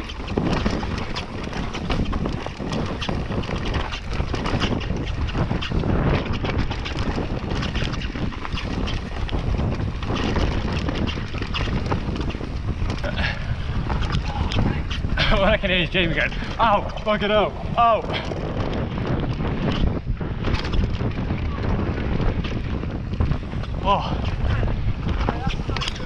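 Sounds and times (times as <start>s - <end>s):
bike rattling and knocking: 0.0s - 26.0s
bike tyres rolling over dirt: 0.0s - 26.0s
wind on microphone: 0.0s - 26.0s.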